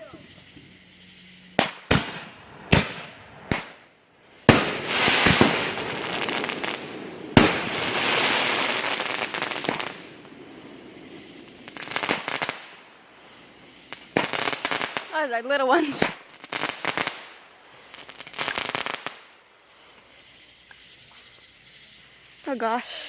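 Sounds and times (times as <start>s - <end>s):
fireworks crackling: 0.0s - 23.0s
sharp fireworks bangs: 1.5s - 20.0s.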